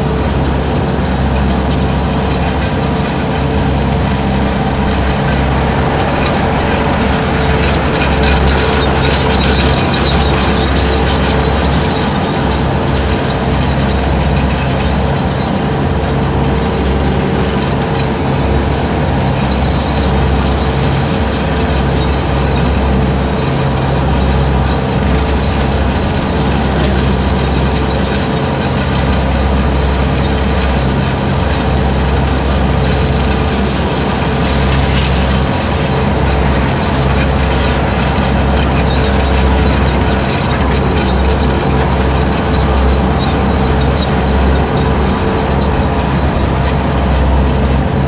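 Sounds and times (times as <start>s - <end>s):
brush cutter whine: 0.0s - 48.0s
skid steer engine under load: 0.0s - 48.0s.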